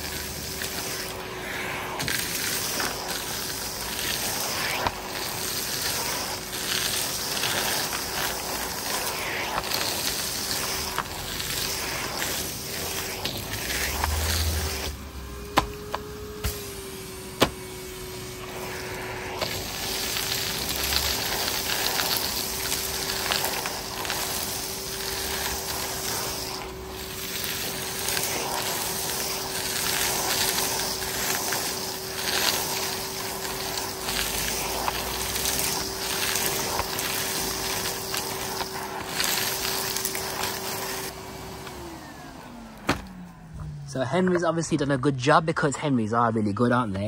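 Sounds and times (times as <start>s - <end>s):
debris rattling up hose: 0.0s - 16.6s, 18.2s - 41.2s
vacuum cleaner whine: 0.0s - 47.0s.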